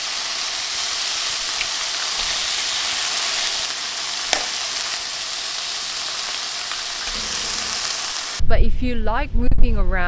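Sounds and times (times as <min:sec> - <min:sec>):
tomatoes sizzling in a pan: 0:00.0 - 0:08.4.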